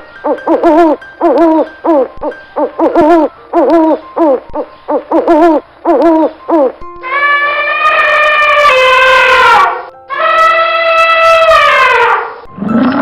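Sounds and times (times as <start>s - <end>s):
hooting animal calls: 0.5s - 12.3s.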